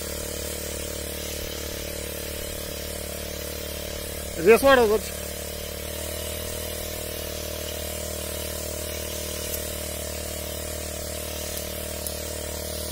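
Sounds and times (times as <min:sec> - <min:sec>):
hiss of mist spraying: 0:00.0 - 0:12.9
sprayer motor running: 0:00.0 - 0:12.9.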